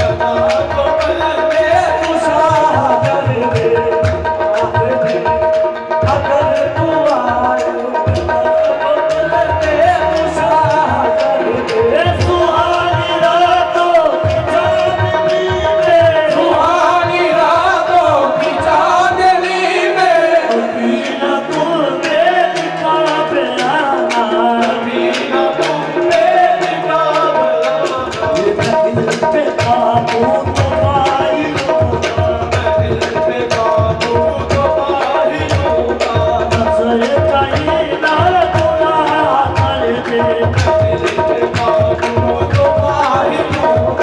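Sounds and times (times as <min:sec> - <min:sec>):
men singing: 0:00.0 - 0:44.0
tabla drumming: 0:00.0 - 0:44.0.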